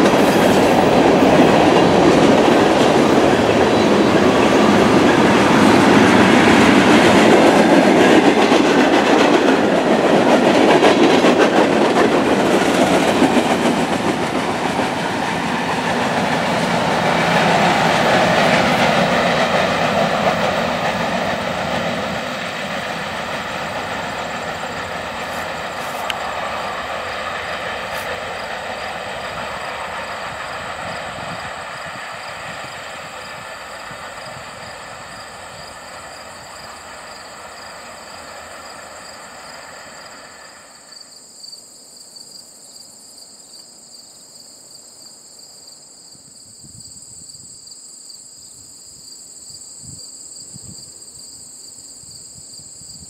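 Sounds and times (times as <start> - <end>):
freight train rolling on rails: 0.0 - 43.0
insects trilling: 0.1 - 53.0.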